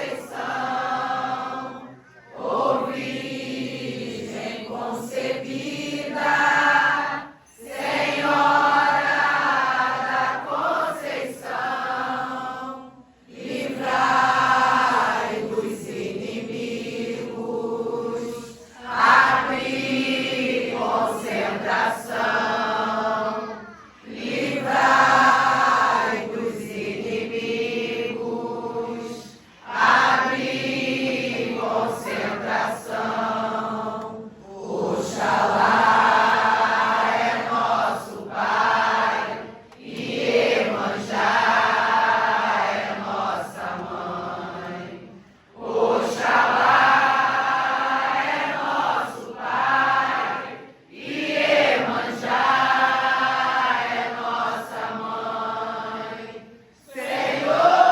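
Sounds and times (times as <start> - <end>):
group chanting a devotional song: 0.0 - 57.9.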